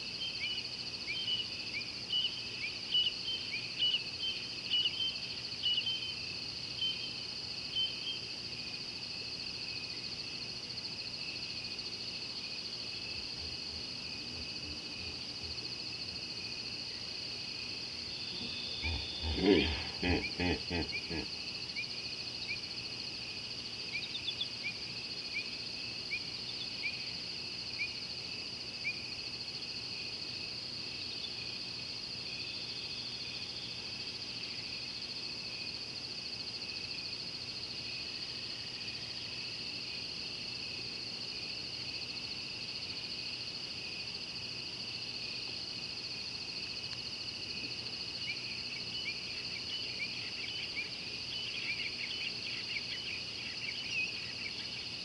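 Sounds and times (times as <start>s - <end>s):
crickets chorus: 0.0s - 55.0s.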